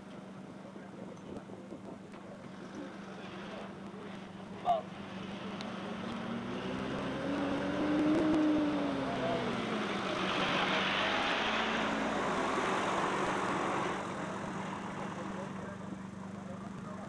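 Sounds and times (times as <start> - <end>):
diesel engine revving: 2.5 - 17.0.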